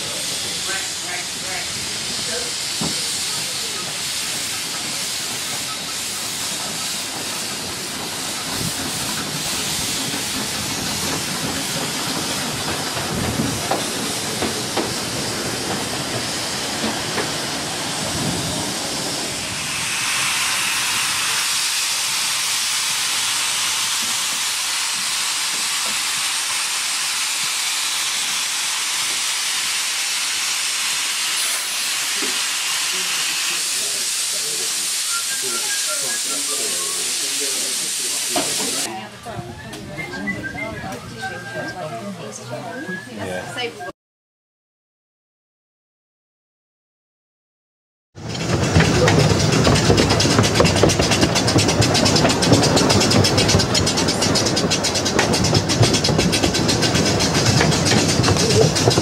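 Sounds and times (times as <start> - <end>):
steam locomotive hissing: 0.0 - 39.0, 48.2 - 59.0.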